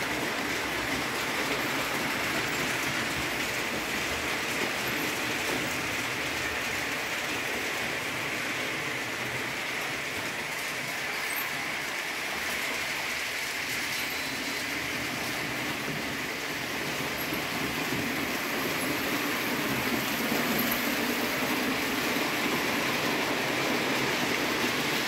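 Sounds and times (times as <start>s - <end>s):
model train wheels rolling: 0.0s - 25.0s.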